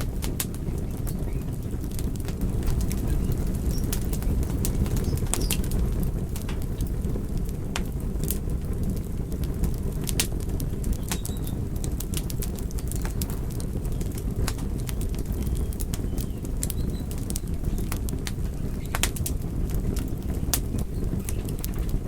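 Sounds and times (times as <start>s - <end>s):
fire low rumble: 0.0s - 22.0s
logs crackling and popping: 0.0s - 22.0s.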